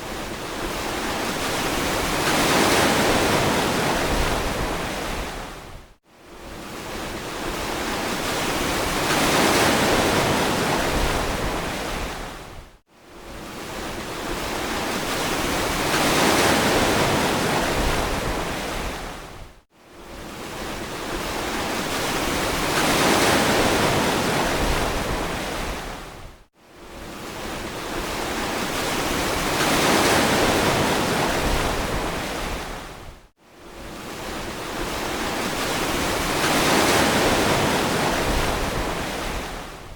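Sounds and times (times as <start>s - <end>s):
ocean waves washing onto beach: 0.0s - 5.8s, 6.4s - 12.6s, 13.2s - 26.2s, 26.8s - 39.9s.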